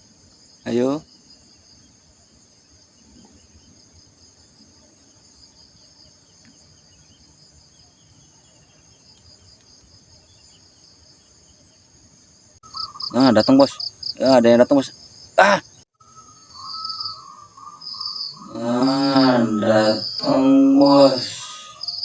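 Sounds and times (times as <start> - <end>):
faint chirps: 0.0 - 22.0
insect chorus trilling: 0.0 - 22.0.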